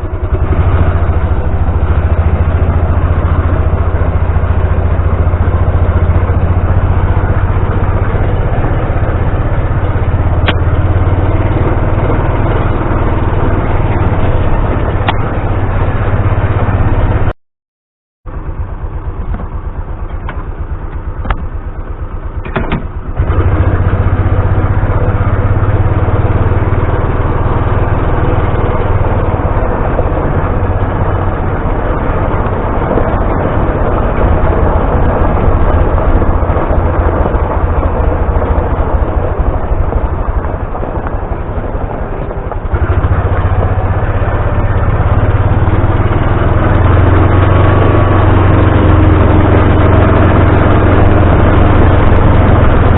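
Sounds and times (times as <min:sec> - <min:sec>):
vehicle engine idling and running: 0:00.0 - 0:17.4, 0:18.2 - 0:52.9.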